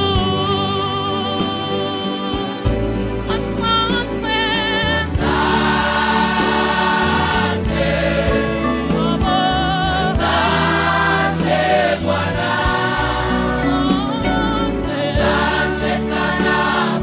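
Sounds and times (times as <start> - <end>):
instrumental backing with bass: 0.0 - 17.0
gospel choir singing: 3.3 - 17.0.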